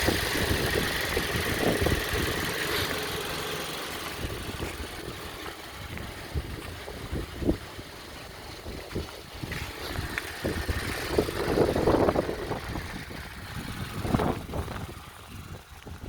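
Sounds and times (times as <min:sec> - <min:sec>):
turbocharged engine running: 0:00.0 - 0:16.0.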